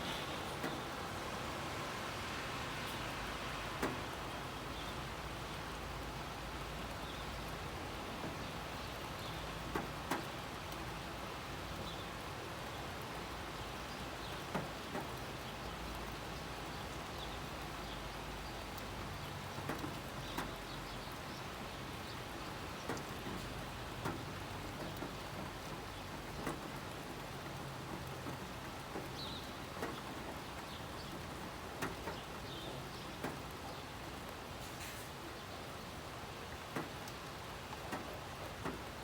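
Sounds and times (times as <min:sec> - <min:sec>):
raindrops ticking on a surface: 0:00.0 - 0:39.0
steady rain hissing: 0:00.0 - 0:39.0.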